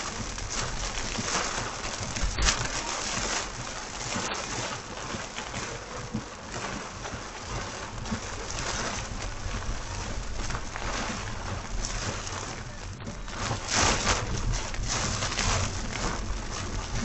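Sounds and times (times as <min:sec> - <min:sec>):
heavy rain on a car: 0:00.0 - 0:17.0.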